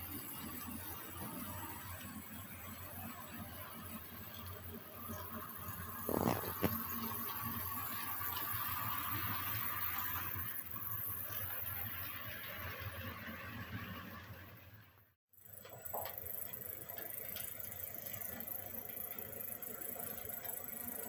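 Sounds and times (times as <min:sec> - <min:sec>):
model train rolling rumble: 0:00.0 - 0:21.0.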